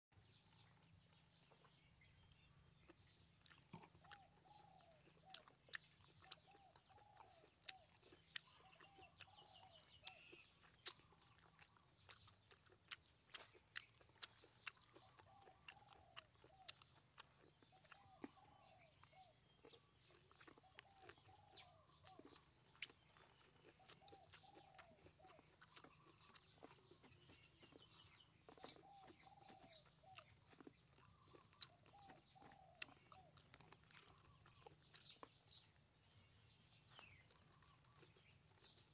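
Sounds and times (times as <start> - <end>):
wet chewing and mouth smacks: 0.4 - 38.9.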